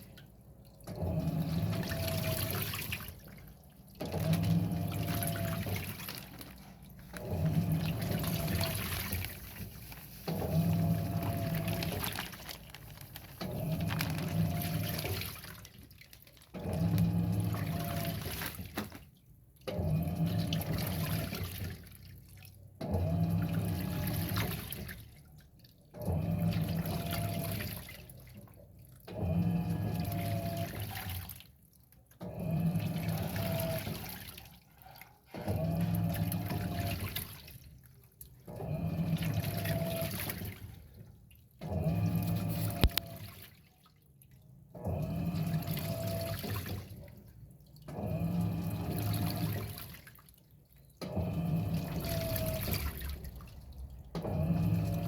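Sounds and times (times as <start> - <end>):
washing machine motor humming: 0.0 - 22.0, 22.8 - 25.1, 25.9 - 28.3, 29.0 - 31.4, 32.2 - 34.6, 35.2 - 37.7, 38.4 - 43.6, 44.7 - 50.2, 51.0 - 55.0
water sloshing: 0.0 - 29.1, 32.8 - 55.0.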